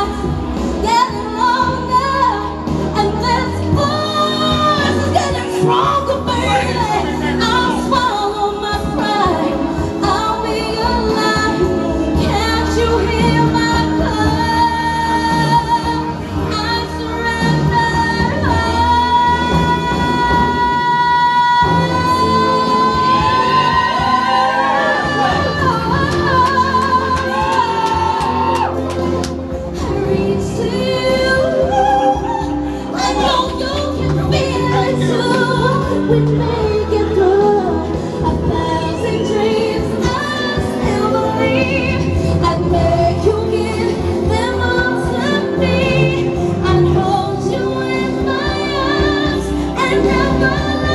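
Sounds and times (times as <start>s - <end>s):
backing music: 0.0s - 50.9s
woman singing pop vocal: 0.0s - 50.9s.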